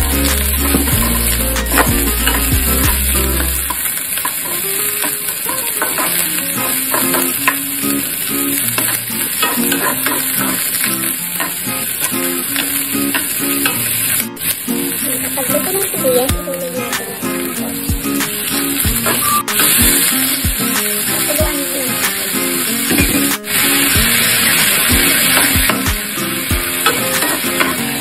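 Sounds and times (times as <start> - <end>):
onion sizzling in hot oil: 0.0 - 28.0.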